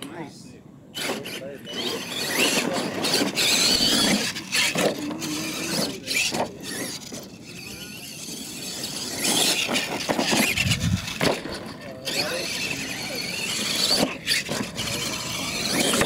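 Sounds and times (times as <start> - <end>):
toy truck motor whining: 0.9 - 16.0
tyres scrabbling on dirt: 1.0 - 16.0.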